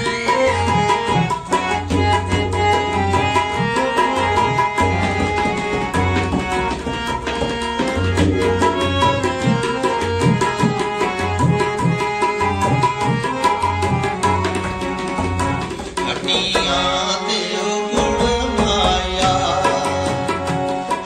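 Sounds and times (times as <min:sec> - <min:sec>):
tabla strokes: 0:00.0 - 0:17.2, 0:18.0 - 0:21.0
sustained melodic backing: 0:00.0 - 0:21.0.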